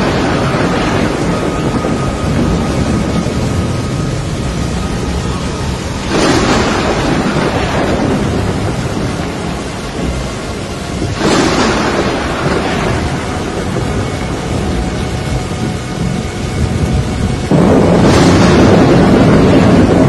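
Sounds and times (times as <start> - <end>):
heavy rain: 0.0 - 20.0
thunder claps rolling: 0.0 - 20.0.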